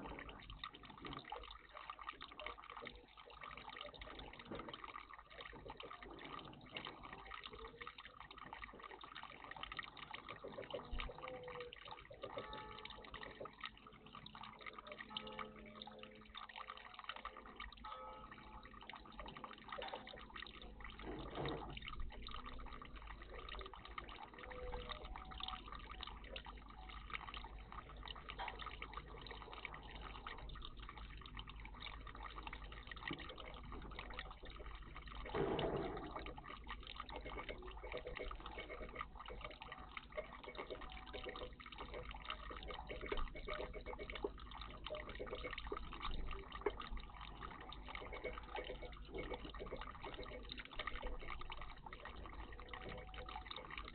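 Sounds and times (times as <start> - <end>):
small water splashes: 0.0 - 53.9
water trickling and dripping: 0.0 - 53.9.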